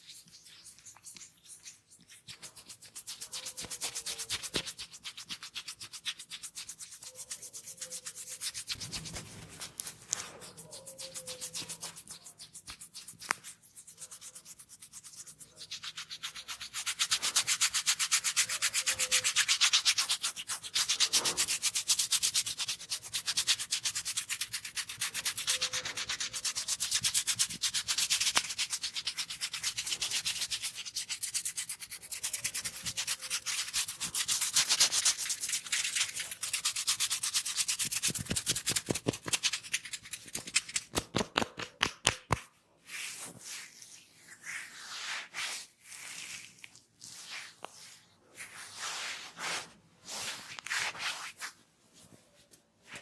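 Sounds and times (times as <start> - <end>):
scratching of hair and scalp: 0.0 - 53.0.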